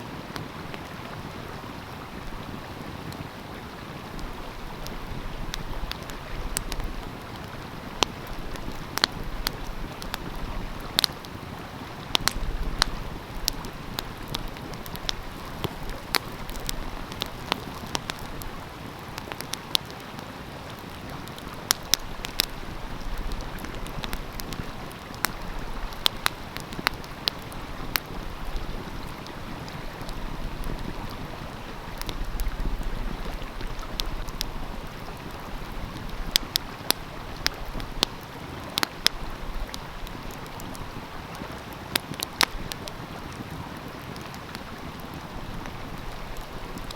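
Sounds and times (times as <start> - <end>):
stream flowing: 0.0 - 46.9
wood fire crackling and popping: 0.1 - 46.9.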